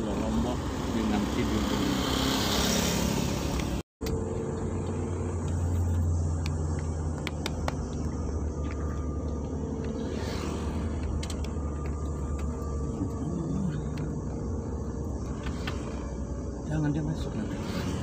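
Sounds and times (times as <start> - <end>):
car engine and tyre drone: 0.0 - 18.0.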